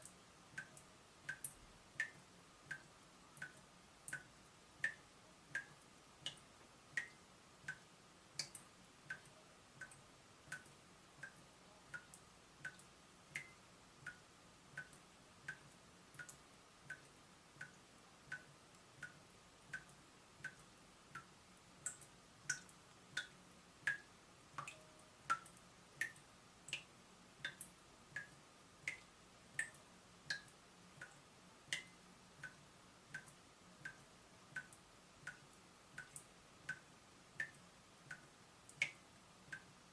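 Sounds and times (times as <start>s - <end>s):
water dripping from tap: 0.0s - 39.7s.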